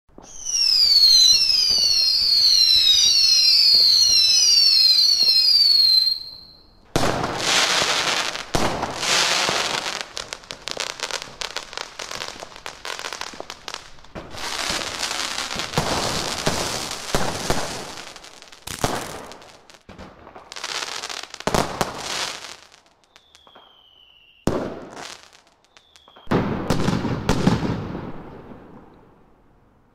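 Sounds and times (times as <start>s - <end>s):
firework bursts and crackling: 0.1s - 29.0s
firework rocket whistles: 0.2s - 19.8s, 20.5s - 26.8s.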